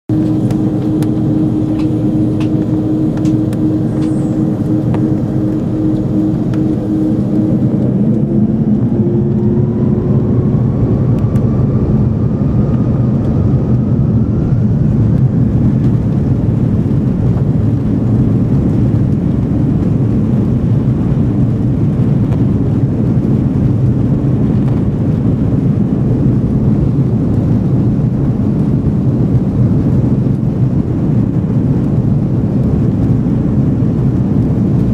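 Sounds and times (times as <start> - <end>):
jet engines rumbling: 0.0 - 34.9
jet engine whine rising in pitch: 0.1 - 30.9.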